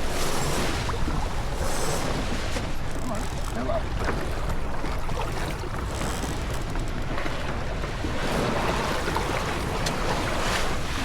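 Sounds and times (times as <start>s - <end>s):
water rushing along hull: 0.0s - 11.0s.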